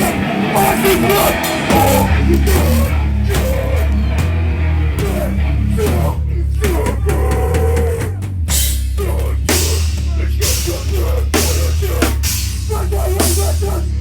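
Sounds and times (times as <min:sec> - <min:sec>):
bass guitar: 0:00.0 - 0:14.0
distorted electric guitars: 0:00.0 - 0:14.0
pounding drum kit: 0:00.0 - 0:14.0.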